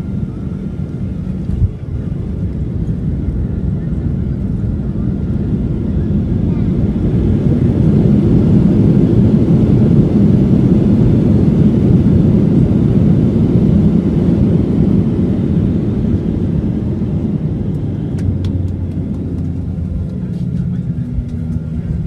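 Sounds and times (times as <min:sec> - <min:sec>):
jet engines reverse thrust rumble: 0:00.0 - 0:22.0.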